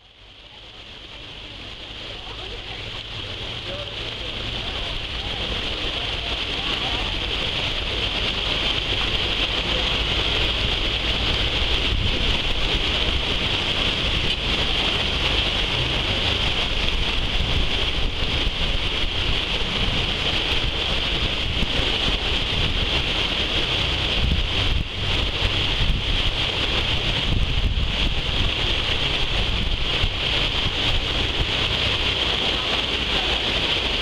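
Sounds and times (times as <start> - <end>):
low rumble: 0.0 - 34.0
water rushing in boat wake: 0.0 - 34.0.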